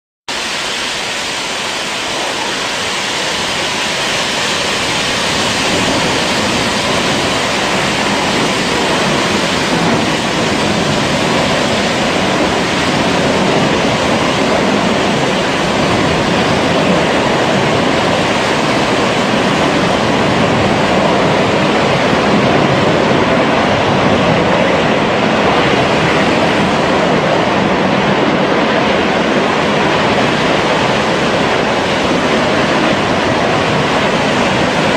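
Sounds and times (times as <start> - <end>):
roar of gas jetting from well: 0.3 - 34.9.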